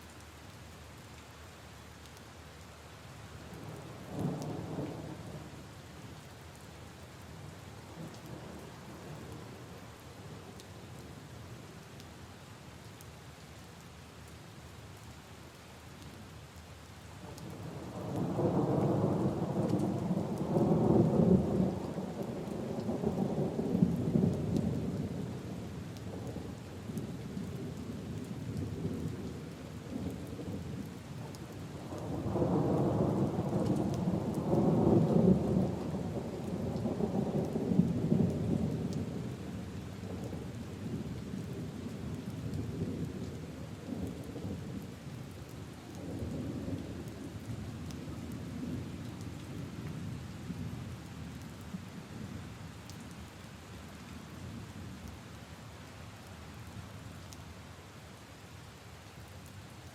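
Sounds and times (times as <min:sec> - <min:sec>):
rain on puddles and leaves: 0:00.0 - 0:59.9.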